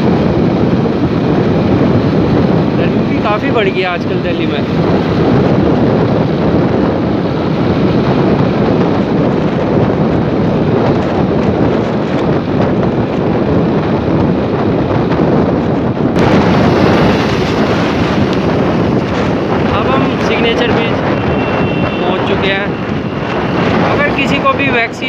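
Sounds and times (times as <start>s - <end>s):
vehicle engine and road noise: 0.0s - 25.0s
wind buffeting microphone: 0.0s - 25.0s.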